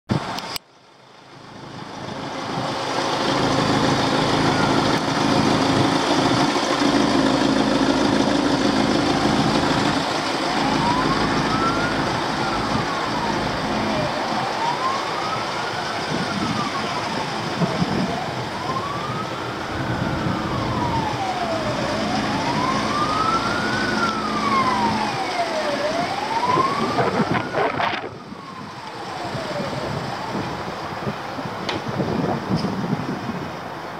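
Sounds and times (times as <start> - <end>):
traffic-like rush: 0.1 - 33.9
siren wailing: 1.8 - 31.5.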